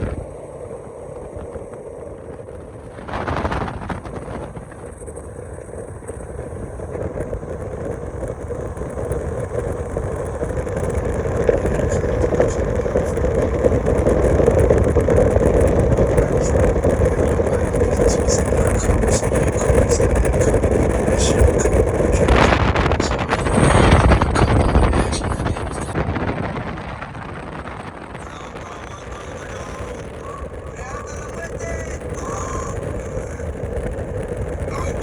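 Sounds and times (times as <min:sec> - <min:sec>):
speedboat engine running: 0:00.0 - 0:35.0.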